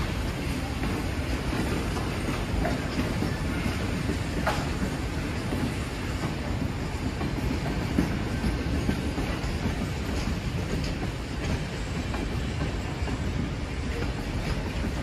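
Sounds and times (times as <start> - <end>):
train carriages rumbling: 0.0 - 15.0
wheels clacking over rail joints: 0.0 - 15.0.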